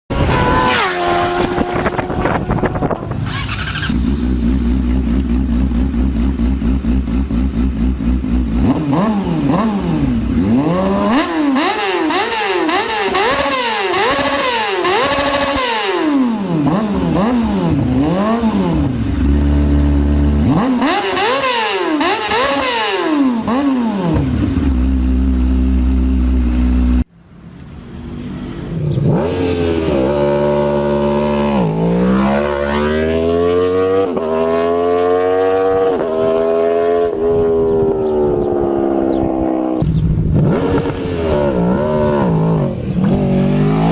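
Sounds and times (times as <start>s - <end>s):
motorcycle engine revving: 0.1s - 27.1s, 28.0s - 43.9s.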